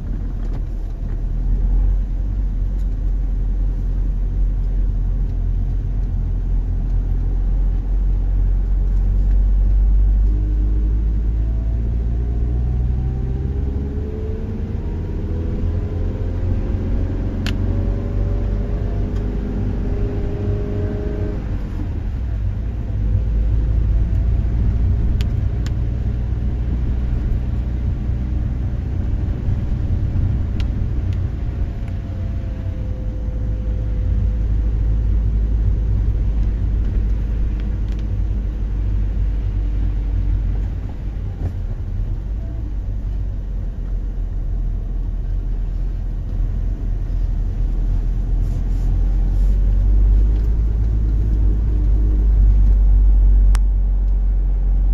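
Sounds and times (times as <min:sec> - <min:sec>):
car engine rumbling: 0:00.0 - 0:54.9.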